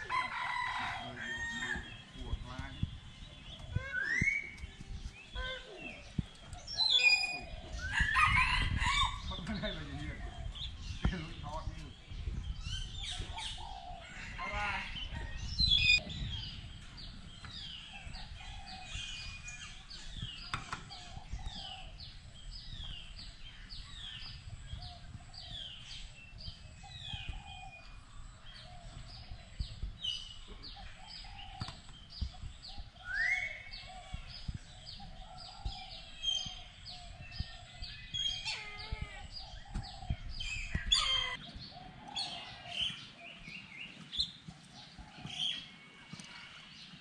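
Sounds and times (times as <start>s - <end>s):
birds chattering: 0.0s - 47.0s
birds chirping: 0.0s - 47.0s.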